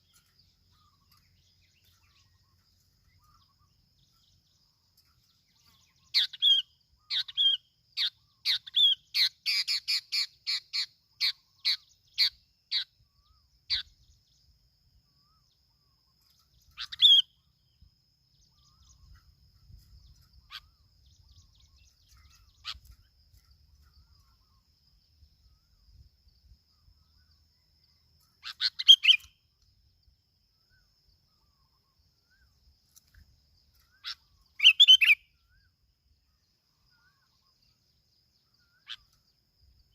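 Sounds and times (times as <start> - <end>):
faint high-pitched whine: 0.0 - 39.9.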